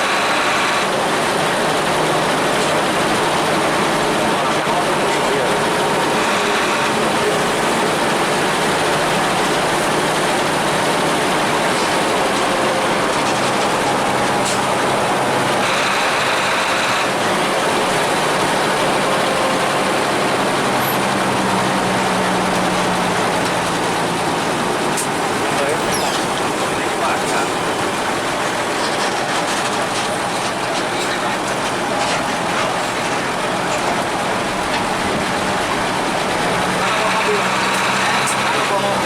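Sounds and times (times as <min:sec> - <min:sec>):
diesel bus engine roaring: 0:00.0 - 0:39.0
road and cabin noise: 0:00.0 - 0:39.0.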